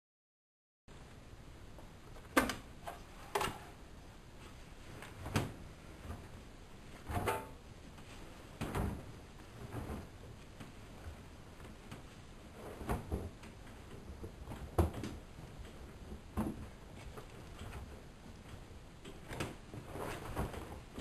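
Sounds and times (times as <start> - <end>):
washing machine rumbling: 1.9 - 21.0.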